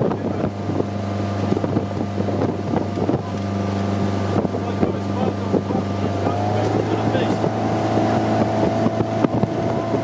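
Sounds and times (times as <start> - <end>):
boat engine running: 0.0 - 10.0
rushing water: 0.0 - 10.0
wind noise on microphone: 0.0 - 10.0.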